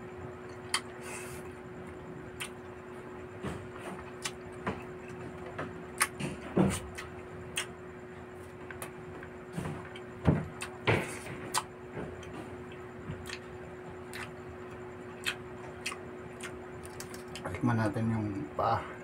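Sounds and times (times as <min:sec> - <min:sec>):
steady low hum: 0:00.0 - 0:19.0
person chewing food: 0:00.5 - 0:02.7, 0:03.6 - 0:07.8, 0:08.4 - 0:17.4.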